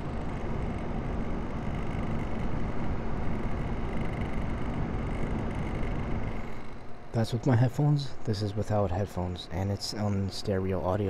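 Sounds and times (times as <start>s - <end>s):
computer fan whirring: 0.0s - 11.0s
faint low hum: 0.0s - 11.0s
thin high whine: 0.0s - 11.0s.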